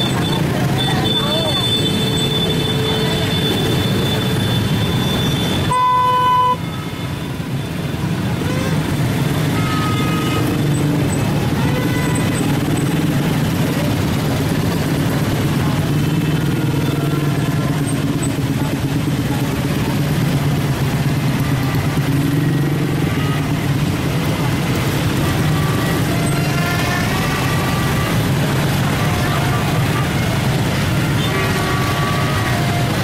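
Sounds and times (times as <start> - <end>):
scattered voices: 0.0 - 5.7, 8.1 - 33.0
vehicle engines running: 0.0 - 33.0.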